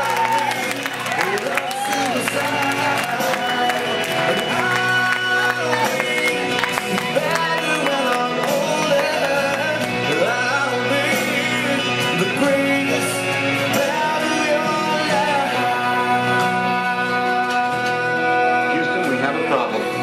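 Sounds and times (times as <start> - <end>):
song with singing voice: 0.0 - 20.0.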